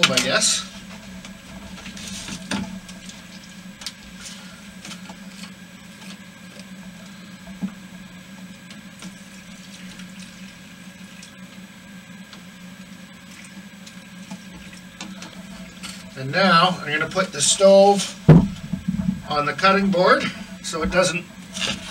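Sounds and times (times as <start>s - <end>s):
low steady hum: 0.0s - 21.9s
fuel trickling: 0.3s - 21.9s.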